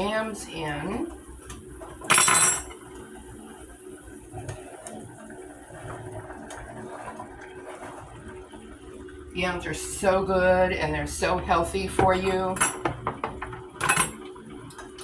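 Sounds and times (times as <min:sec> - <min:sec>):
pot bubbling: 0:00.0 - 0:15.0.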